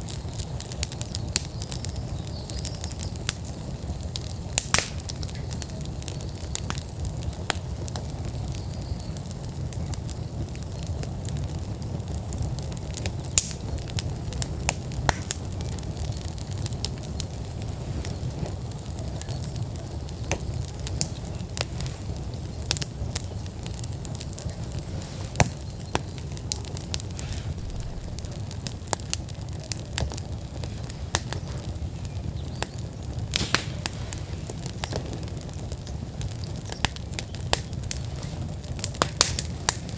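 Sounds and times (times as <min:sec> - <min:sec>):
fire crackling and popping: 0:00.0 - 0:39.9
fire low rumble: 0:00.0 - 0:39.9.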